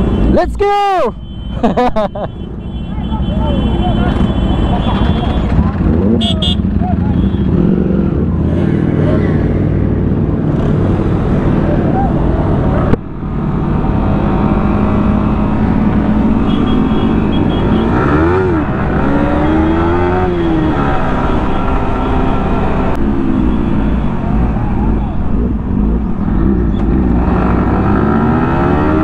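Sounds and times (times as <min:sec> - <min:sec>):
motorcycle engine revving: 0:04.0 - 0:29.0.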